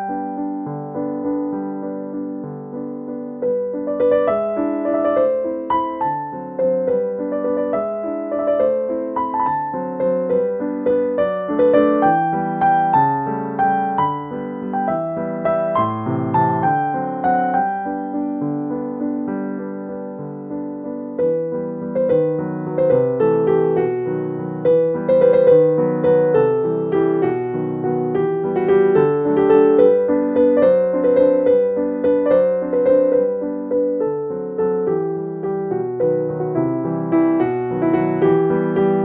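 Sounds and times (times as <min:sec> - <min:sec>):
gentle piano music: 0:00.0 - 0:39.0.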